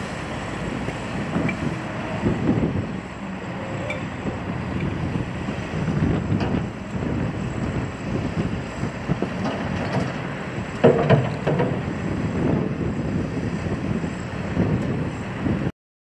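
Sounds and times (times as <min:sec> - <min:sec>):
diesel engine running: 0:00.0 - 0:15.7.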